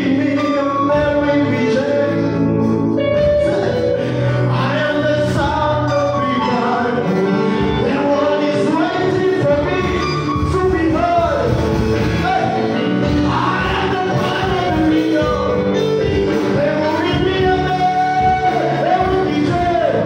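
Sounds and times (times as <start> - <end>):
instrumental backing: 0.0 - 20.0
men singing gospel: 0.0 - 20.0.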